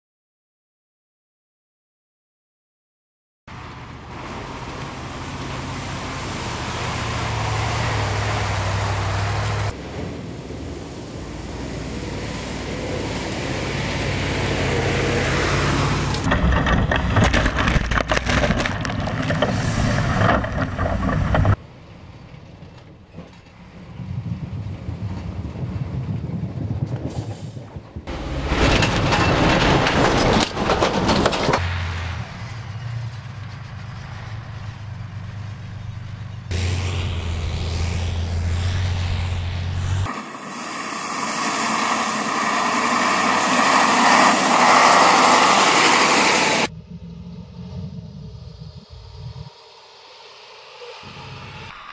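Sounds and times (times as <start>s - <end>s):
heavy diesel engines under load: 3.5s - 51.7s
tyre and track noise on dirt: 3.5s - 51.9s.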